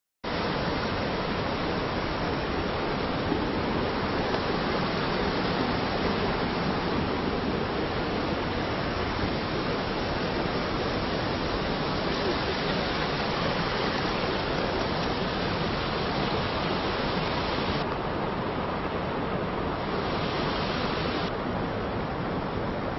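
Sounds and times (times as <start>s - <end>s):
river water rushing: 0.3s - 22.9s.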